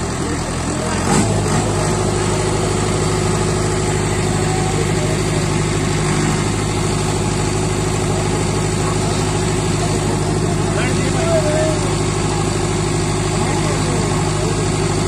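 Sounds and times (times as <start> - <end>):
tractor diesel engines under load: 0.0 - 15.0.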